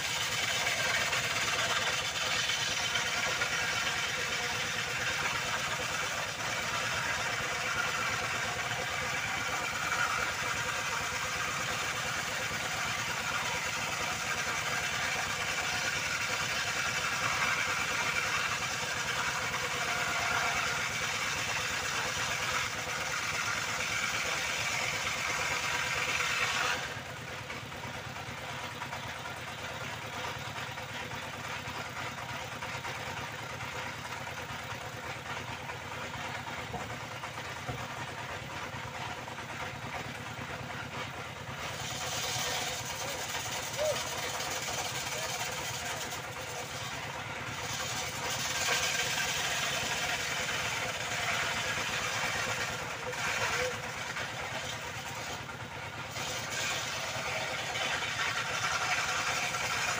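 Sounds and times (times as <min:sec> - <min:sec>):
circular saw cutting timber: 0:00.0 - 0:59.9.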